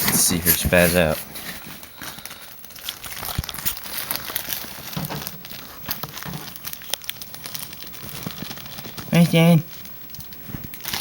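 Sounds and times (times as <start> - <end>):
plastic or paper rustling: 0.0 - 11.0.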